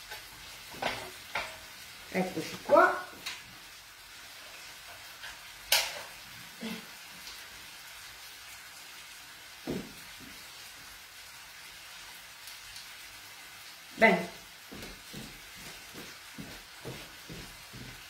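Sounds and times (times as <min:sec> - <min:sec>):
pan sizzling: 0:00.0 - 0:18.0.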